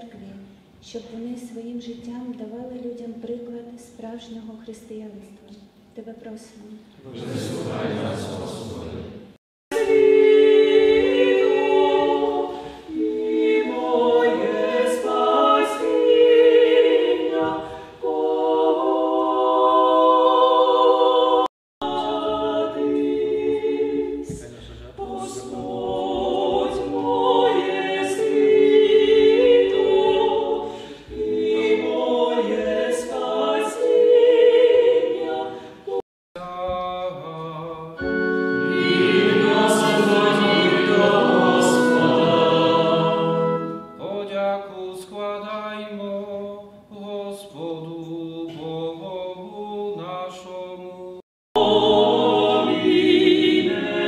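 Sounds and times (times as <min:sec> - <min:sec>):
small choir singing a hymn: 0:07.0 - 0:54.0.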